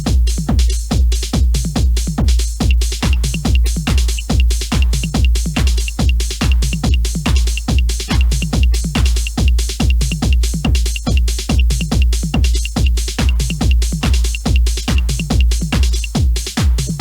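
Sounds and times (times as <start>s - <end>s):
kick drum: 0.0s - 17.0s
ticking hi-hat: 0.0s - 17.0s
electronic dance music: 2.4s - 17.0s.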